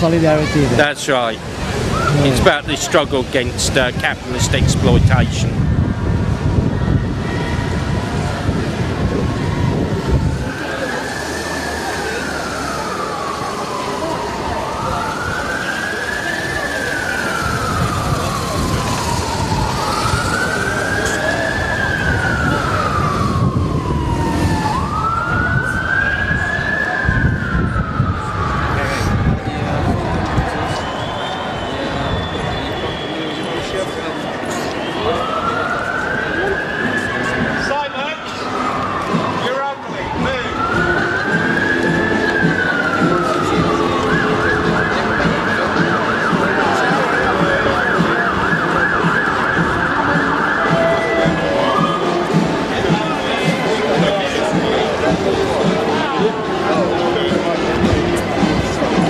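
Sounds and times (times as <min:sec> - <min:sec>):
crowd and street noise: 0:00.0 - 0:59.0
police siren wailing: 0:00.0 - 0:59.0.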